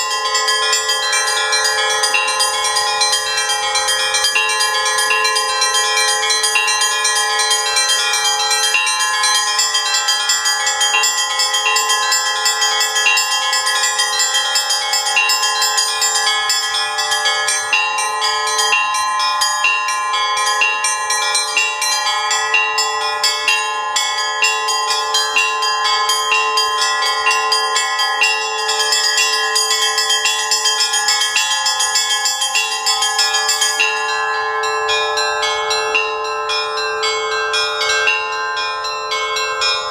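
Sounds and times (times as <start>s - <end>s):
large bells ringing: 0.0s - 39.9s
small high bells chiming: 0.0s - 39.9s.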